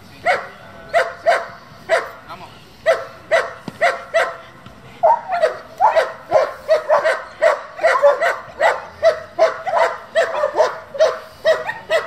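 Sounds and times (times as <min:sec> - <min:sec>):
dog barking rapidly: 0:00.2 - 0:02.2, 0:02.9 - 0:04.4, 0:05.0 - 0:12.0.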